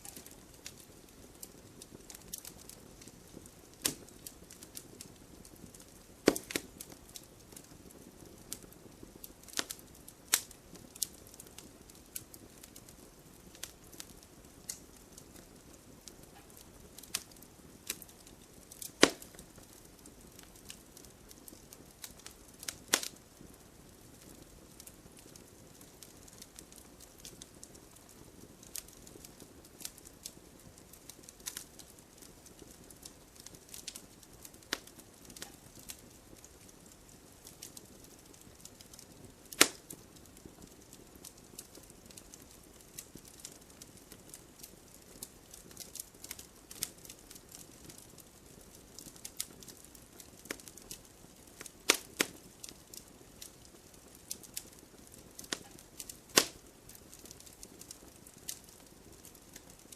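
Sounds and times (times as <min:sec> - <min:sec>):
fire pops and snaps: 0:00.0 - 0:59.9
wood fire crackling: 0:00.0 - 0:59.9.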